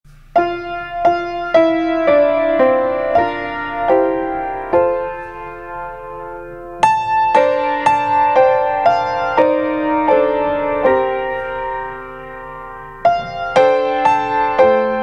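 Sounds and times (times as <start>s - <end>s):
slow piano music: 0.1s - 15.0s.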